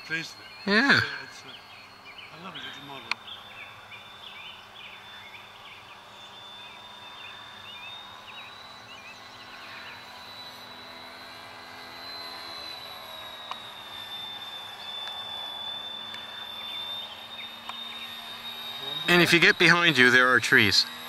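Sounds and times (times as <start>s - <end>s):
birds chirping faintly: 0.0s - 21.0s
model plane electric motors whining: 0.0s - 21.0s.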